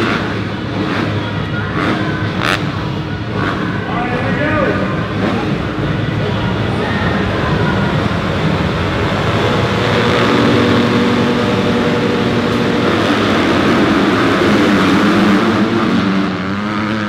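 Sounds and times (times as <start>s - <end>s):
motocross bikes revving and accelerating: 0.0s - 17.0s.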